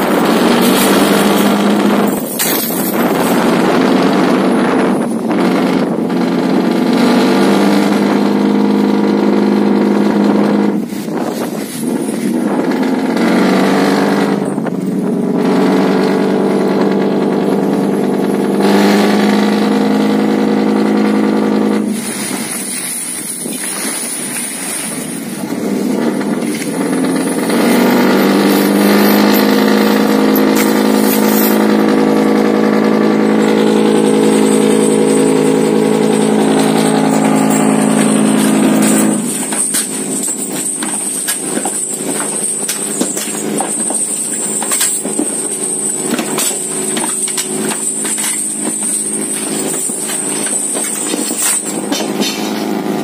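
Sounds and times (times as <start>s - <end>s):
water rushing along hull: 0.0s - 44.6s
boat engine droning: 0.0s - 53.0s.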